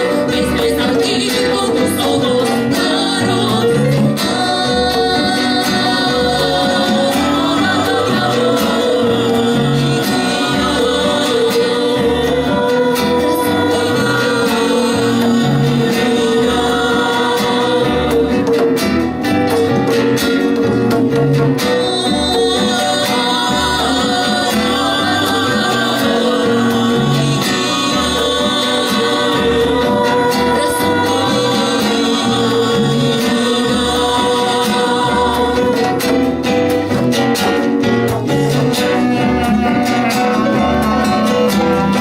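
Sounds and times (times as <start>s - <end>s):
person singing: 0.0s - 18.8s, 21.6s - 36.7s, 38.2s - 42.0s
latin band playing live: 0.0s - 42.0s
repeating bass line: 0.0s - 42.0s.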